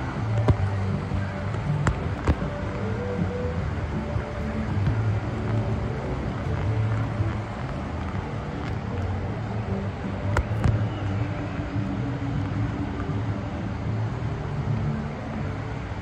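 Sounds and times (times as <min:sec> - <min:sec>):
low outdoor rumble with hum: 0:00.0 - 0:16.0.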